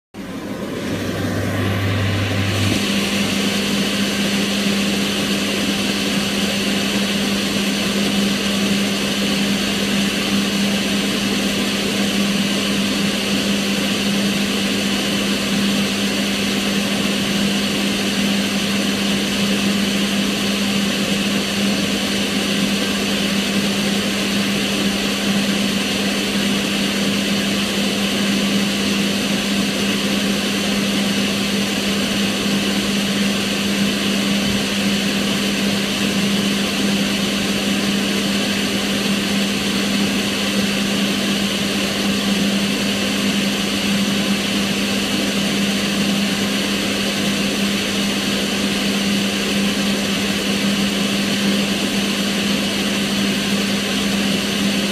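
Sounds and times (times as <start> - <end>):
range hood extractor fan running: 0.2 - 54.9.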